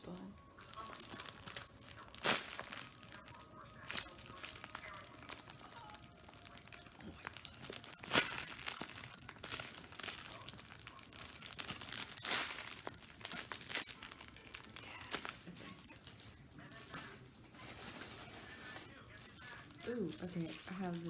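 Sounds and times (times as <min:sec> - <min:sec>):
crinkly packaging crackling: 0:00.0 - 0:21.0.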